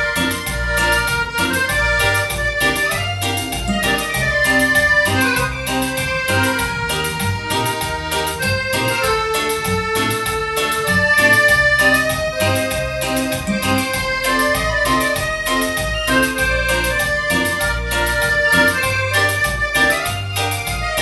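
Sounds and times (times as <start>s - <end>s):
bass notes: 0.0s - 21.0s
piano accordion melody: 0.0s - 21.0s
steady drum beat: 0.0s - 21.0s.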